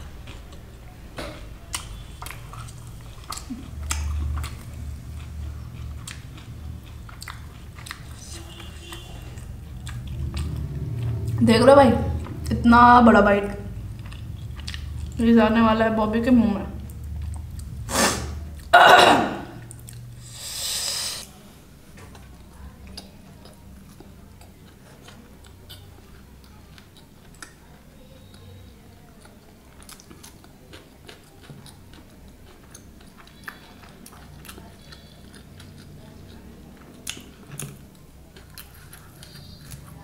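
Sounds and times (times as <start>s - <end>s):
wet chewing sounds: 1.6s - 12.7s, 13.3s - 15.6s, 16.7s - 18.7s, 19.5s - 20.6s, 22.0s - 40.0s.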